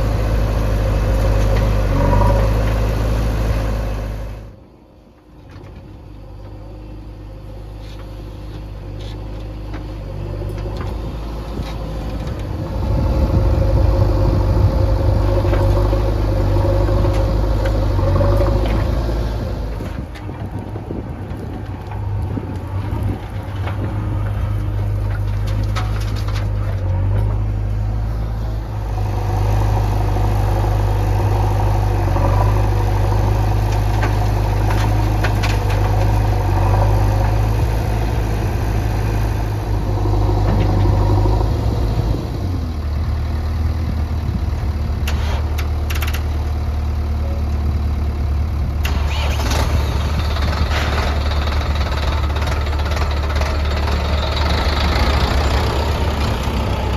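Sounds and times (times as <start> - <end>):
diesel engines droning: 0.0 - 56.9.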